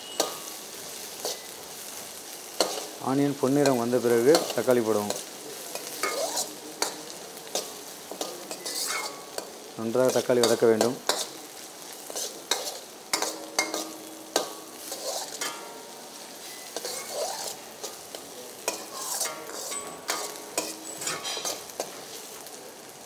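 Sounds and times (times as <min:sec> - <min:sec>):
vegetables sizzling in oil: 0:00.0 - 0:23.0
metal spatula scraping pan: 0:01.2 - 0:01.5, 0:02.5 - 0:11.4, 0:12.0 - 0:22.1.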